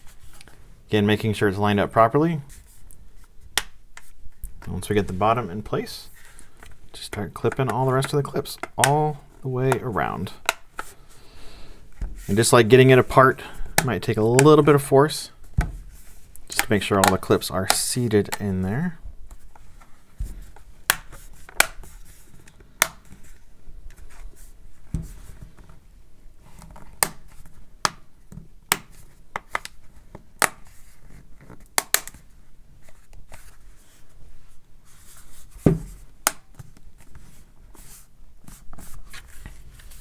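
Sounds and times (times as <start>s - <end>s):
soft rubbing and handling noise: 0.0s - 40.0s.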